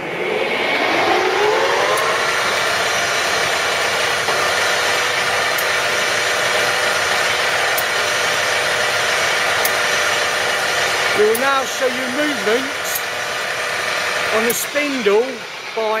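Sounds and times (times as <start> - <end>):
boring machine spindle whine: 0.0 - 16.0.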